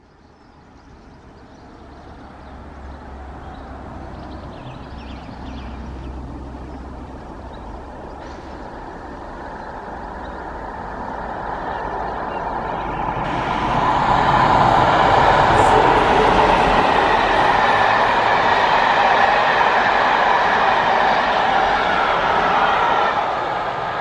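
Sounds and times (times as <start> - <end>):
diesel locomotive approaching: 0.0 - 24.0.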